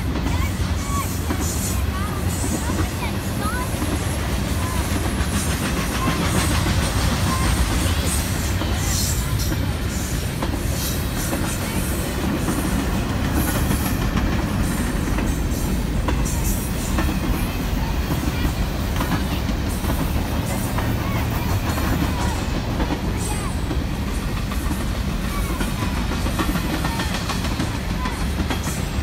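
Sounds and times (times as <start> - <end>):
freight train rumbling past: 0.0 - 29.0
wheels clicking over rail joints: 0.0 - 29.0.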